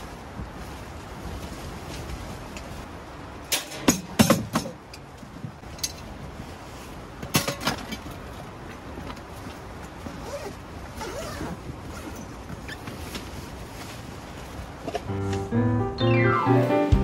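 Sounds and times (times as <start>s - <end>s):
rustling and handling noises: 0.0s - 15.5s.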